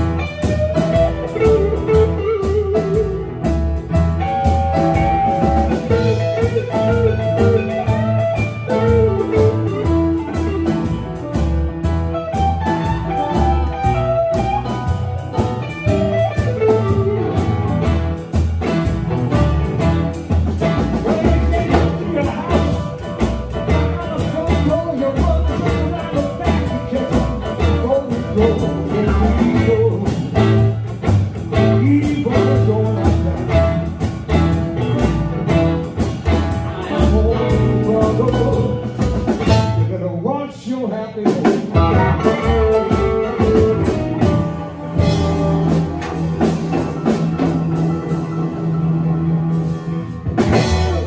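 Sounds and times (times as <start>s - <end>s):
live blues band playing: 0.0s - 51.0s.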